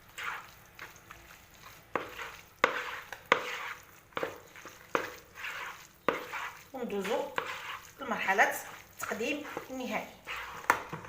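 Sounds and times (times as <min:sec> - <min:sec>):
pasta swishing in sauce: 0:00.0 - 0:11.0.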